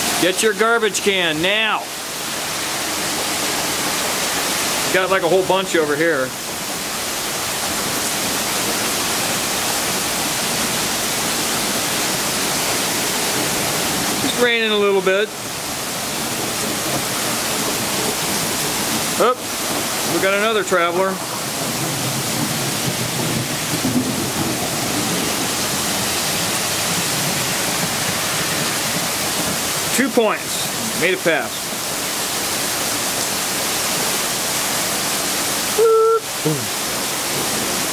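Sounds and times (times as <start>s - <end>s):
floodwater rushing: 0.0s - 37.9s
heavy rain: 0.0s - 37.9s.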